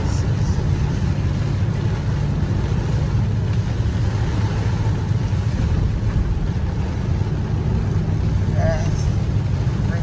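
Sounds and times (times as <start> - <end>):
engine and tyres rumbling: 0.0 - 10.0.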